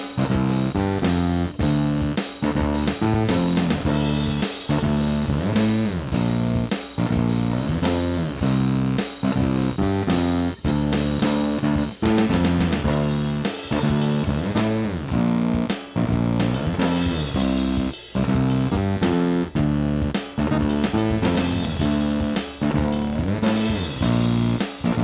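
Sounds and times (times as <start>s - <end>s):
bass guitar: 0.0s - 25.0s
drum kit: 0.0s - 25.0s
guitar: 0.0s - 25.0s.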